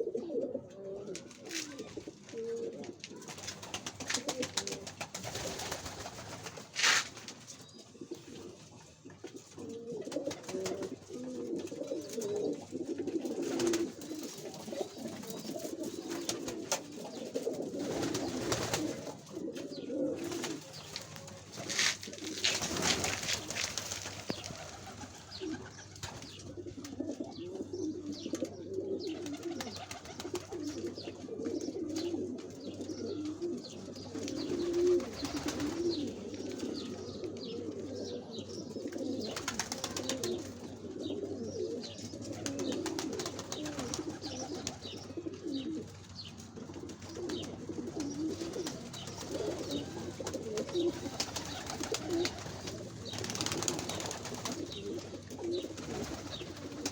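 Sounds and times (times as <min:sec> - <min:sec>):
pigeons cooing: 0:00.0 - 0:56.9.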